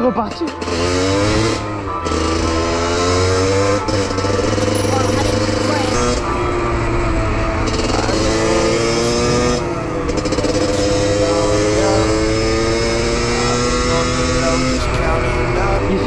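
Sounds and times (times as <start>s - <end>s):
two-stroke motorbike engine accelerating: 0.0s - 16.0s.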